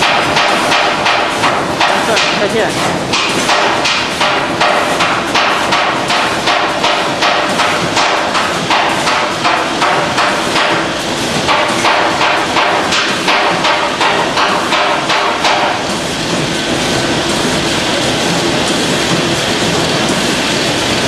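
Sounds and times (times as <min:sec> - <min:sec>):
steady mechanical din: 0:00.0 - 0:21.0.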